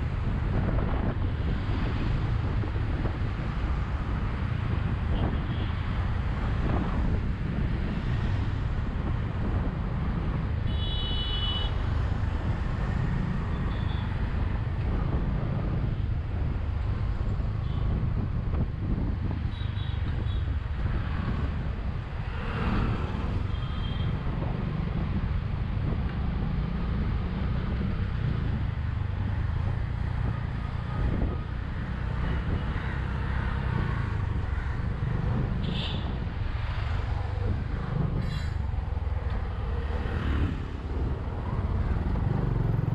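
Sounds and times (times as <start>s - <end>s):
wind rush: 0.0s - 10.7s, 14.2s - 42.9s.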